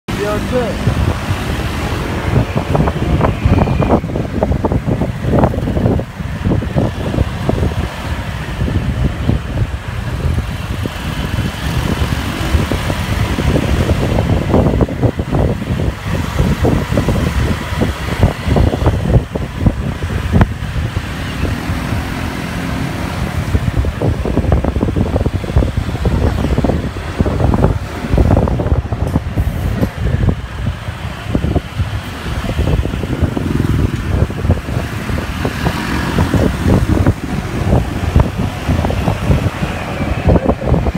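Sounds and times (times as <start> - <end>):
street traffic: 0.0 - 40.9
motorbike engine: 0.1 - 40.9
wind buffeting microphone: 0.1 - 40.9.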